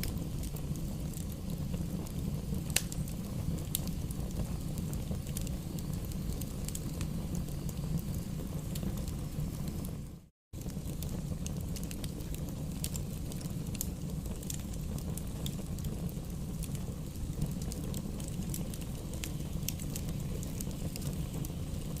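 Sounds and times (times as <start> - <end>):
fire crackling with pops: 0.0 - 22.0
low rumble of flames: 0.0 - 22.0.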